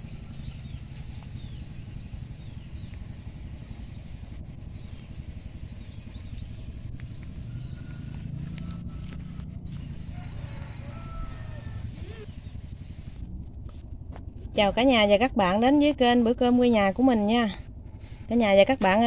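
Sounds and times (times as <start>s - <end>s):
small birds chirping: 0.0s - 13.5s, 16.2s - 19.0s
constant low rumble: 0.0s - 19.0s.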